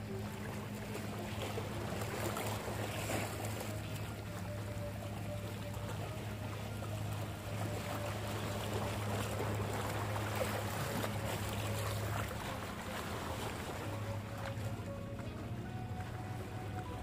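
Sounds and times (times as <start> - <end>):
water sloshing over rocks: 0.0 - 17.0.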